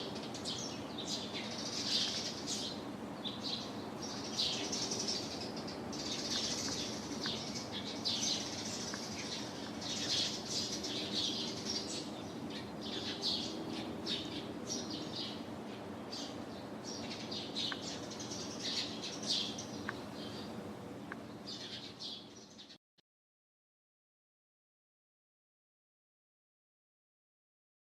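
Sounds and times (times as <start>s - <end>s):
steady low hum: 0.0s - 22.4s
small birds chirping: 0.0s - 22.8s.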